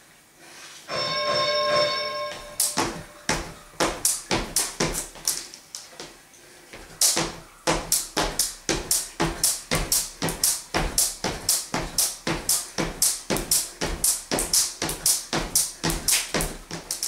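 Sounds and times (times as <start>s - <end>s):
sneakers landing: 2.3s - 17.0s
jump rope slapping wooden floor: 2.6s - 6.2s, 6.8s - 17.0s.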